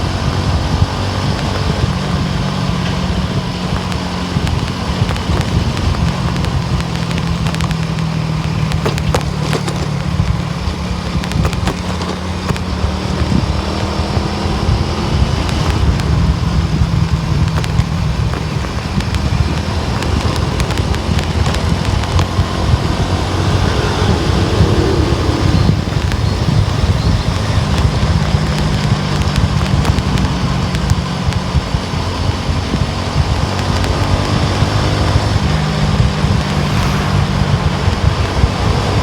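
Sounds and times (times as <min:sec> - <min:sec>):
car engine hum: 0:00.0 - 0:39.0
tyre and road noise: 0:00.0 - 0:39.0.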